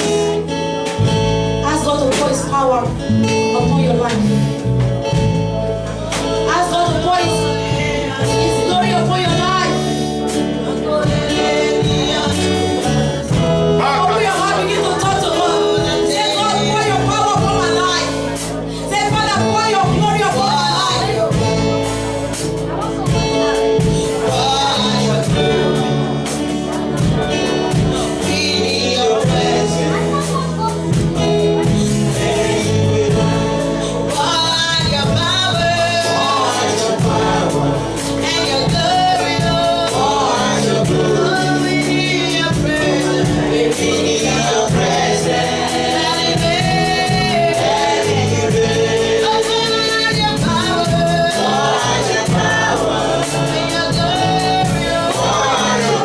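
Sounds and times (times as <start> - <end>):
group singing gospel song: 0.0 - 56.0
keyboard bass and drums: 0.0 - 56.0.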